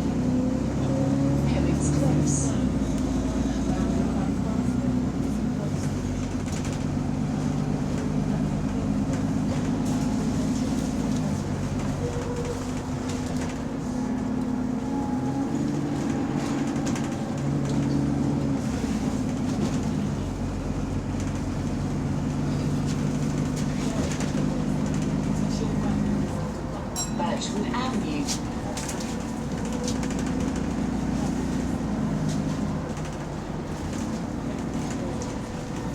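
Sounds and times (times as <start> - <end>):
bus engine running: 0.0 - 35.9.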